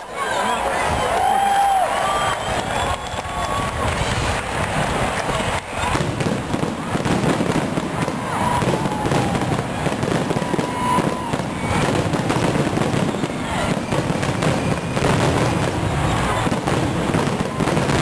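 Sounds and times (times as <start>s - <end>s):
fireworks bursting and crackling: 0.0s - 18.0s
fireworks whistles: 2.0s - 18.0s.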